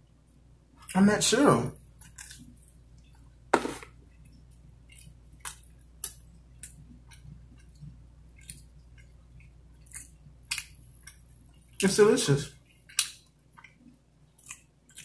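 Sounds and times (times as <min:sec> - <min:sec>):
person chewing food: 0:01.8 - 0:11.8, 0:12.5 - 0:15.0.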